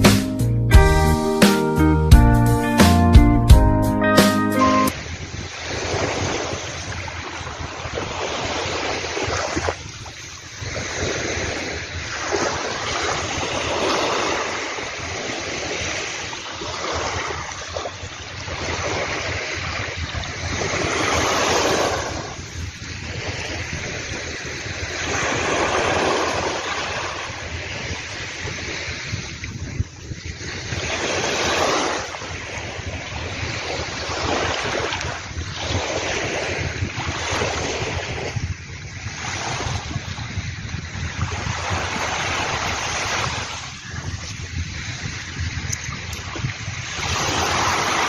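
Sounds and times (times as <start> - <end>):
sea waves breaking on beach: 4.7 - 48.0.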